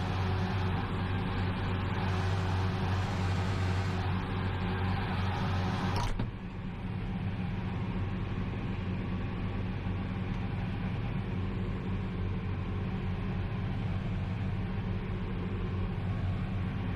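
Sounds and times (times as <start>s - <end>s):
diesel tractor engine droning: 0.0s - 16.9s.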